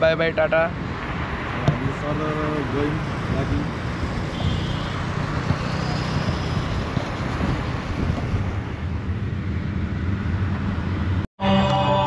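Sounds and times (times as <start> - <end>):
car road noise rumble: 0.0 - 11.3.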